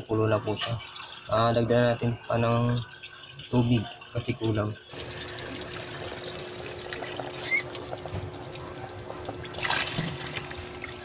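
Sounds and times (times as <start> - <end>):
porridge bubbling: 0.0 - 11.0
water pouring from jug: 0.1 - 11.0.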